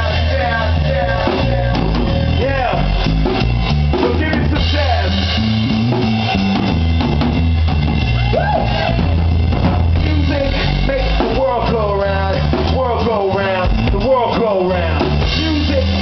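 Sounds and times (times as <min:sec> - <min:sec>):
bass guitar line: 0:00.0 - 0:16.0
drum kit: 0:00.0 - 0:16.0.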